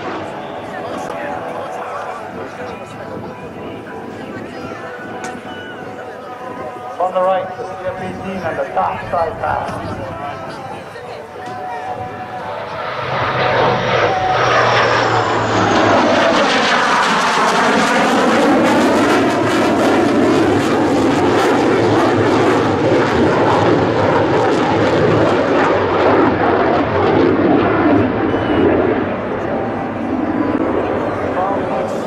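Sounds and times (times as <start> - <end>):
fighter jet roaring past: 0.0 - 4.4, 6.4 - 32.0.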